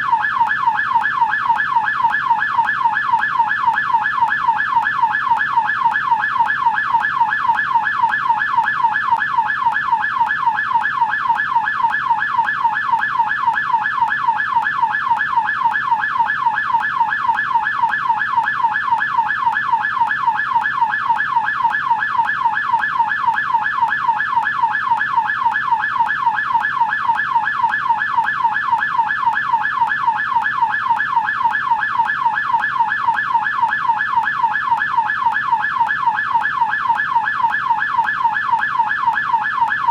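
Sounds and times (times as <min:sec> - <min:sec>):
police siren yelp: 0:00.0 - 0:39.9.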